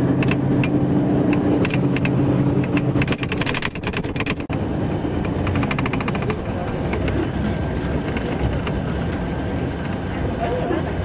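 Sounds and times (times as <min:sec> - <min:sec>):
tram electric hum: 0:00.0 - 0:11.0
wheels clicking on rails: 0:00.2 - 0:11.0.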